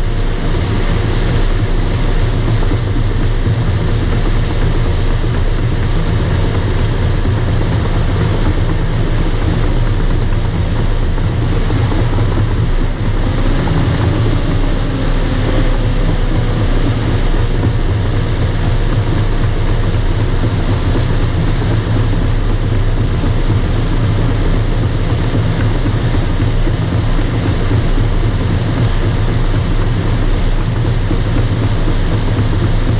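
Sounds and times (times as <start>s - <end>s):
bulldozer diesel engine running: 0.0s - 32.9s
faint whine: 0.0s - 32.9s.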